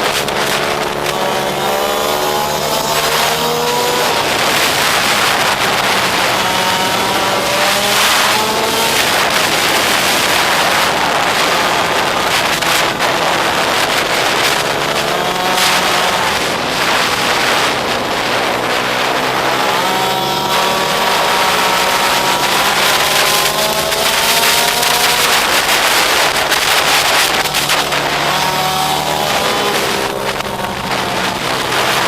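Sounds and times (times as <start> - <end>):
motorbike engine revving: 0.0 - 32.0
wind buffeting microphone: 0.0 - 32.0.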